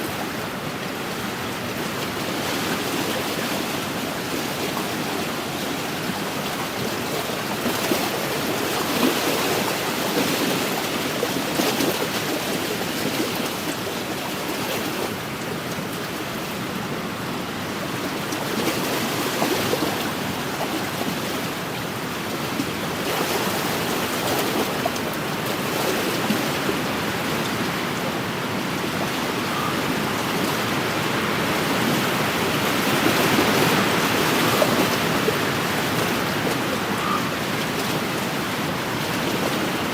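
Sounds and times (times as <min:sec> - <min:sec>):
waves lapping against shore: 0:00.0 - 0:39.9.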